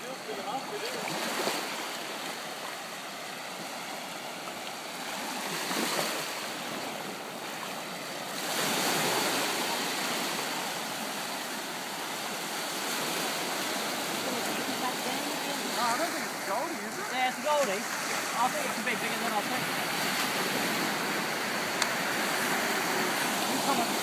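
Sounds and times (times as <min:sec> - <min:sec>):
ocean surf washing up beach: 0:00.0 - 0:24.0.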